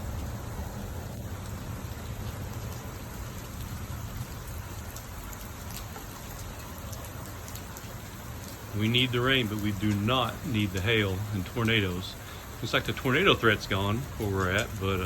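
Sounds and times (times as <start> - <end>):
rain drop ticks: 0.0 - 15.0
steady rain: 0.0 - 15.0.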